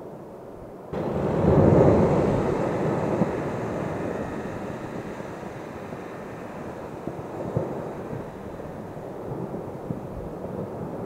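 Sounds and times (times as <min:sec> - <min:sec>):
volcanic eruption rumble: 0:01.0 - 0:11.0.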